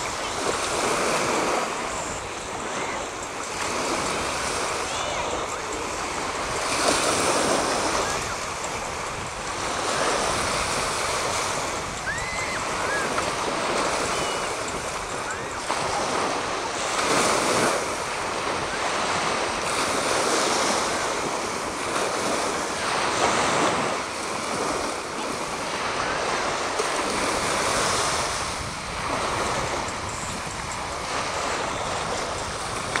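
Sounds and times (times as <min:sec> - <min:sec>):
small waves breaking in shallow water: 0:00.0 - 0:33.0
wind on microphone: 0:00.0 - 0:33.0.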